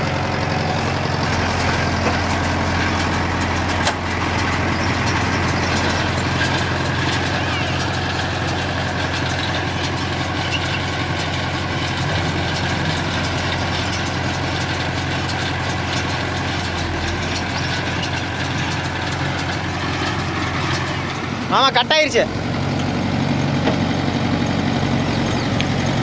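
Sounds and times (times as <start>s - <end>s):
diesel tractor engine running: 0.0s - 26.0s.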